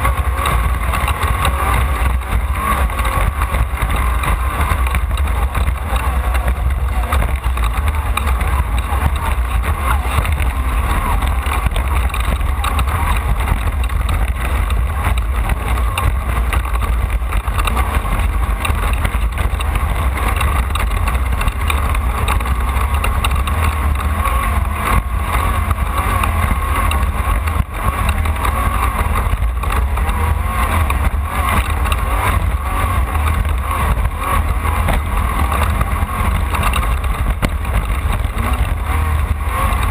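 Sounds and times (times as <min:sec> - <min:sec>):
race car engine roaring: 0:00.0 - 0:39.9.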